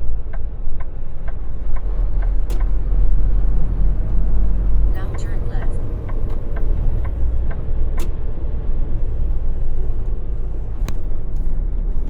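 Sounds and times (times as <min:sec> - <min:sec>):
truck engine rumble: 0:00.0 - 0:12.0.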